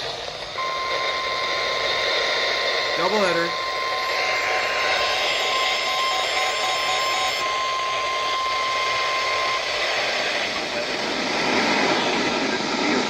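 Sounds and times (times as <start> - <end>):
radio static hiss: 0.0 - 13.0
steady alarm beep: 0.5 - 11.4.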